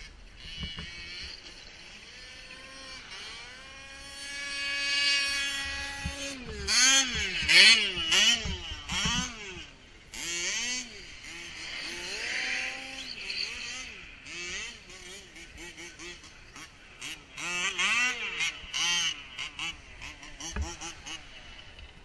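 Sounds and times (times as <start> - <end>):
toy car motor whining: 0.0 - 21.3.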